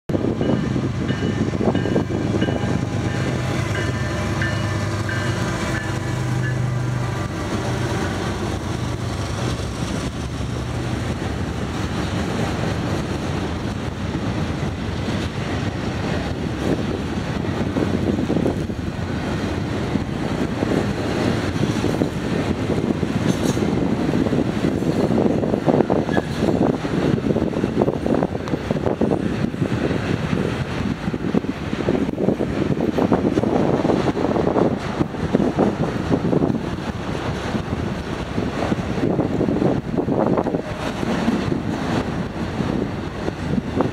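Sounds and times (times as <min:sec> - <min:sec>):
diesel locomotive engine hum: 0:00.1 - 0:43.9
freight cars rumbling over rails: 0:00.1 - 0:43.9.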